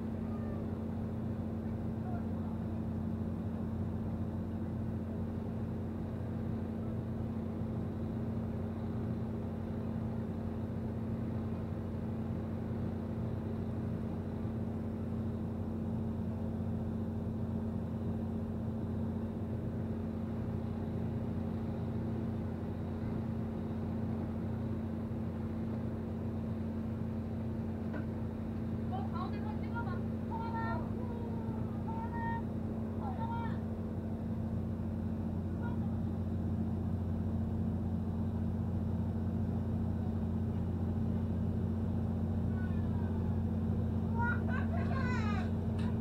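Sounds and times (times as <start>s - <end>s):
boat engine rumbling: 0.0s - 46.0s.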